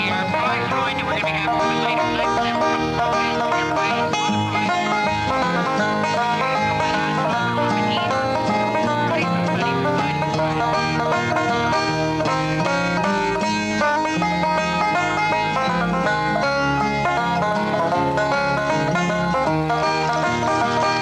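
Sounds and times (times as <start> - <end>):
banjo melody: 0.0 - 21.0
bass line: 0.0 - 21.0
guitar: 0.0 - 21.0.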